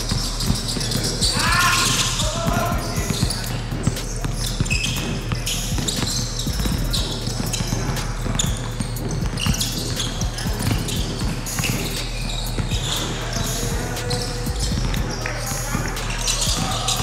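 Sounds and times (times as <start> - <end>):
basketball bouncing: 0.0 - 17.0
players' voices: 0.0 - 17.0
sneakers squeaking on floor: 0.0 - 17.0.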